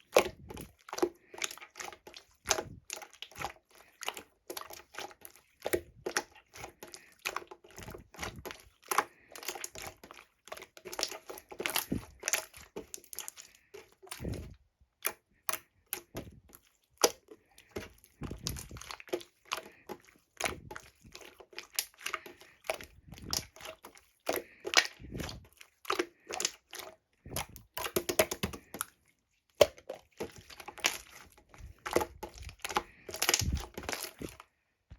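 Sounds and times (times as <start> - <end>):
slime squished by hand: 0.0 - 34.4.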